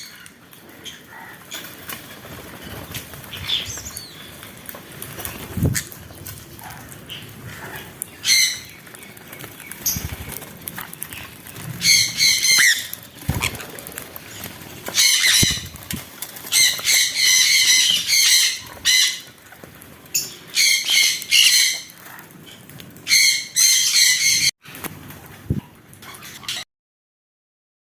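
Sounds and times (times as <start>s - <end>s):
birds calling harshly: 0.0s - 24.5s.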